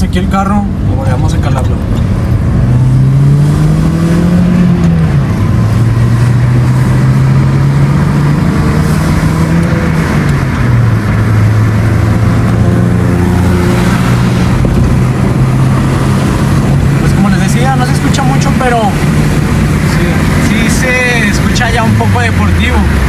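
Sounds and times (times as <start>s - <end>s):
car engine revving while driving: 0.0s - 23.0s.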